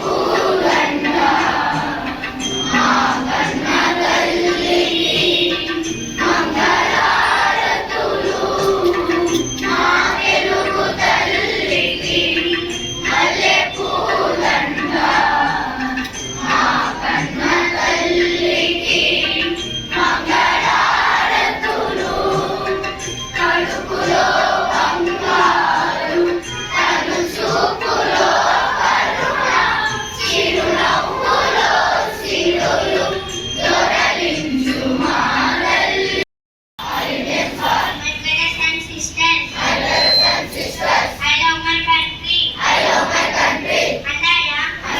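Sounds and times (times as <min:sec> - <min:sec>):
children singing in chorus: 0:00.0 - 0:36.2, 0:36.8 - 0:38.0, 0:39.5 - 0:41.2, 0:42.6 - 0:44.0.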